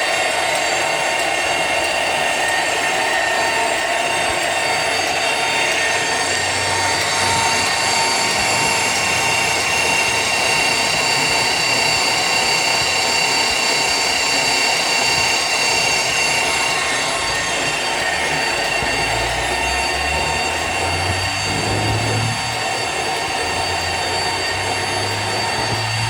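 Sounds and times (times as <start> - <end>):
high squeal of boring machine: 0.0 - 26.0
metal grinding noise: 0.0 - 26.0.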